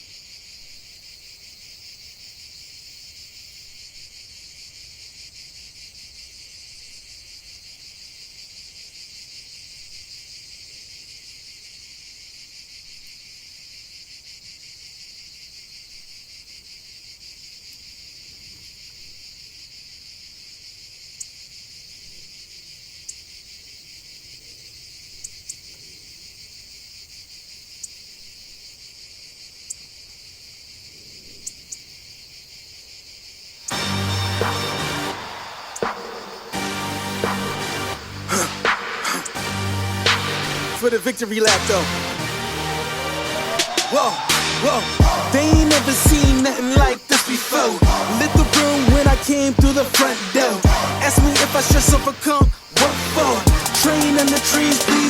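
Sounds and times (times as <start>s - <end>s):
insect chorus chirring: 0.0s - 39.5s, 40.6s - 42.4s, 43.4s - 55.0s.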